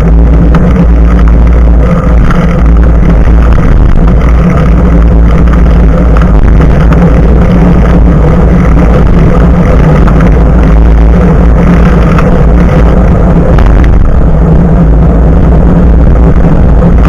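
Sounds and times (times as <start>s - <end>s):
bicycle tyre road noise: 0.0s - 17.0s
wind rumble: 0.0s - 17.0s.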